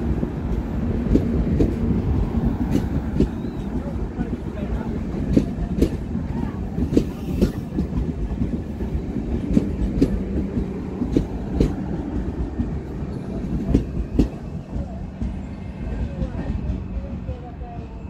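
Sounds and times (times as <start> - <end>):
train low rumble and hum: 0.0 - 18.0
train wheels clattering: 0.0 - 18.0.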